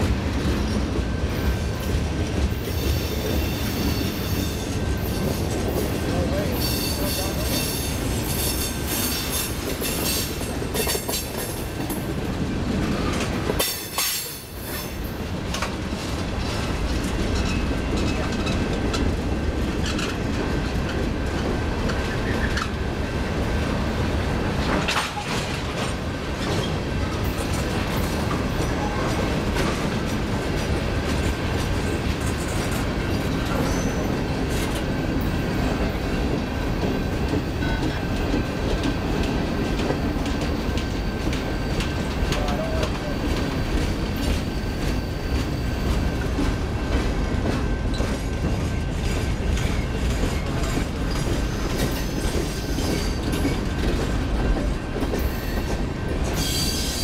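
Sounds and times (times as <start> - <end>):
train wheels rumbling and clacking: 0.0 - 57.0.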